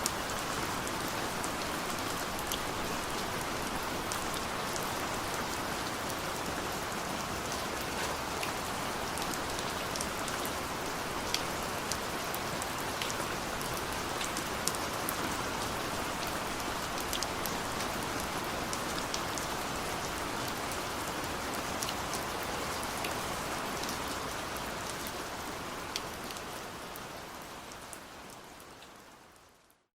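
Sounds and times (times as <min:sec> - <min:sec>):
rain falling on a surface: 0:00.0 - 0:29.9.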